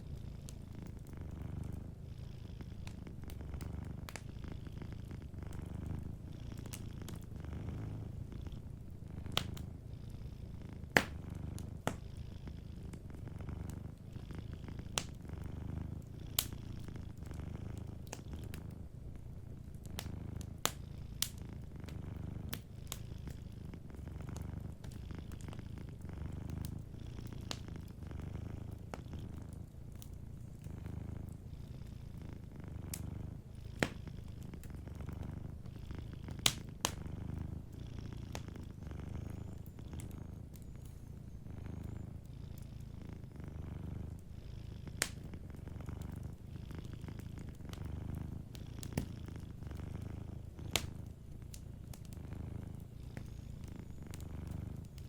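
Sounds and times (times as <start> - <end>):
wood fire crackling and popping: 0.0 - 9.9, 10.5 - 55.0
cat purring: 0.0 - 55.0.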